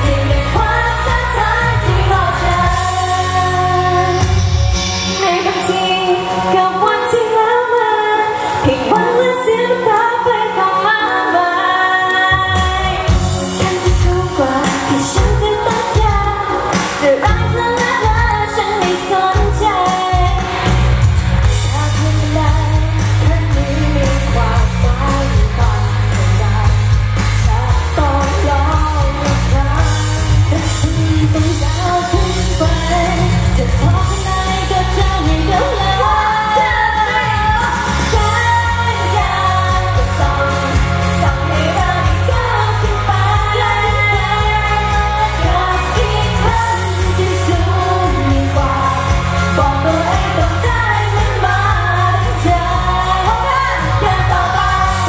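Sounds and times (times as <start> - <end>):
pop backing track with heavy bass: 0.0 - 55.0
woman singing into a microphone: 0.0 - 55.0.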